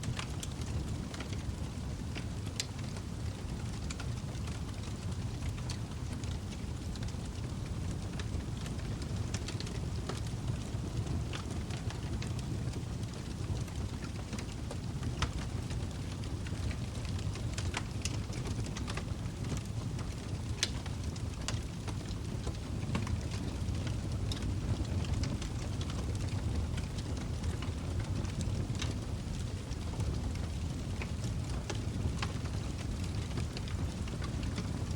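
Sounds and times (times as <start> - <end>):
rumble of flames: 0.0 - 34.9
wood crackling and popping: 0.0 - 34.9.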